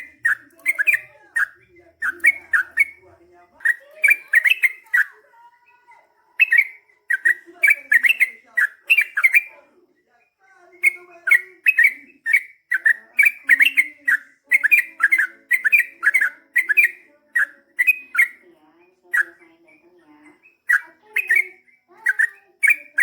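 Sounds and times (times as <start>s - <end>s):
bird singing chirping notes: 0.0s - 5.8s, 6.4s - 9.6s, 10.8s - 19.4s, 20.2s - 23.0s.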